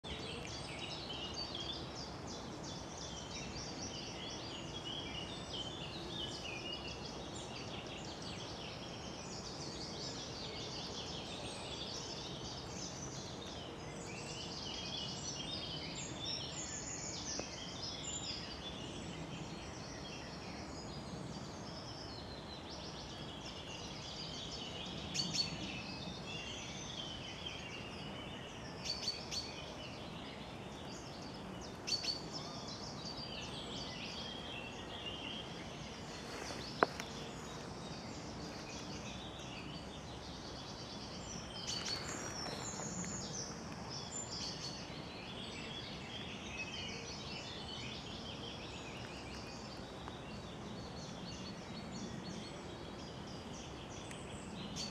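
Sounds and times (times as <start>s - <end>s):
low background noise: 0.0s - 54.9s
songbirds singing: 0.0s - 54.9s.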